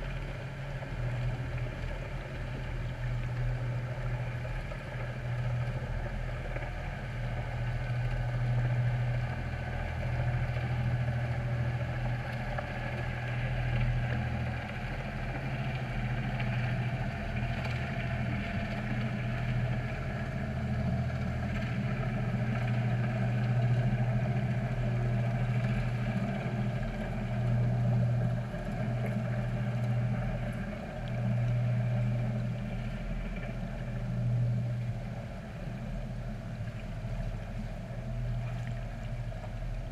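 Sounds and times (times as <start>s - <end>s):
boat engine drone underwater: 0.0s - 39.9s.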